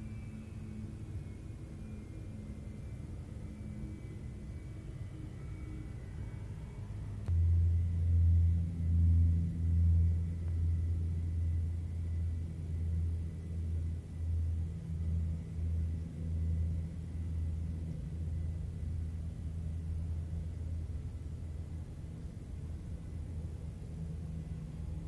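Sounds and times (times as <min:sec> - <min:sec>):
distant jet airliner rumble: 0:00.0 - 0:25.0.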